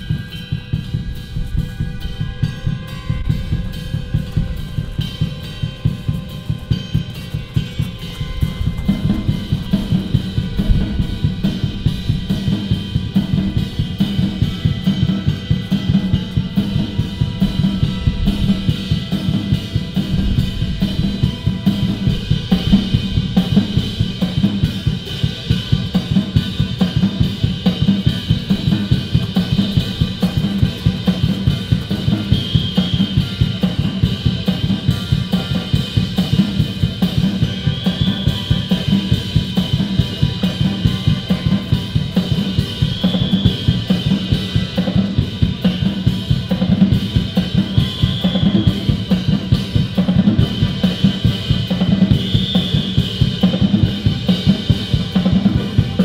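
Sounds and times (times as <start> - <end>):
sustained held tones: 0.0 - 45.6
steady drum beat: 0.0 - 56.0.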